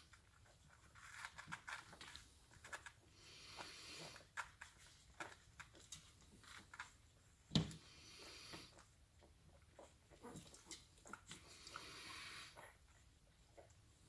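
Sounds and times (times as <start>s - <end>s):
puppies suckling: 0.0s - 14.0s.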